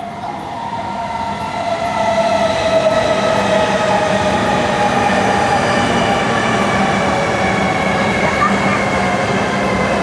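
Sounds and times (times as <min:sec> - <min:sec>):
wheels rumbling on rail: 0:00.0 - 0:10.0.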